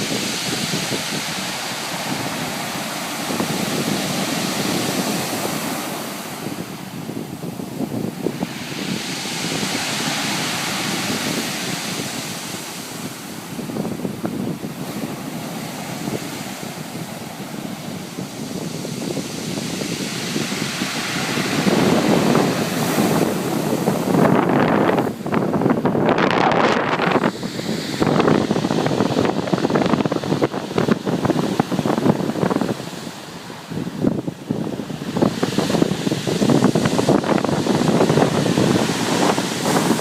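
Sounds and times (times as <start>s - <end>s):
waves breaking on pebble beach: 0.0s - 40.0s.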